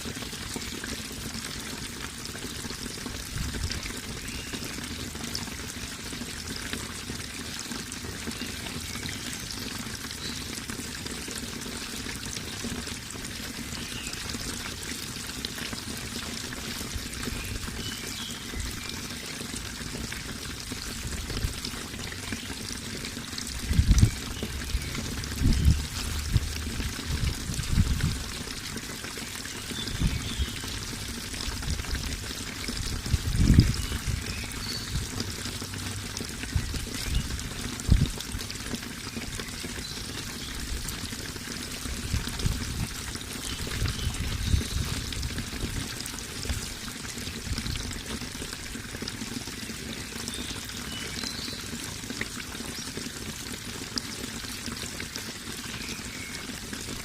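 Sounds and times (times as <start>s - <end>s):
water pouring and trickling: 0.0s - 57.0s.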